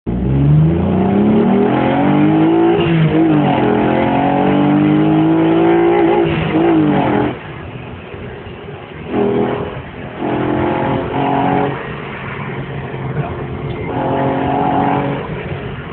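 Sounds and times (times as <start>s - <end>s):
car engine accelerating hard: 0.1s - 7.6s, 9.0s - 15.9s.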